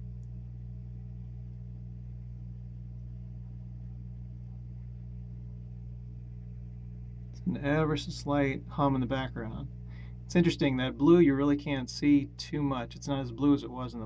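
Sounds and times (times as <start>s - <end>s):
water pump humming: 0.0s - 14.0s.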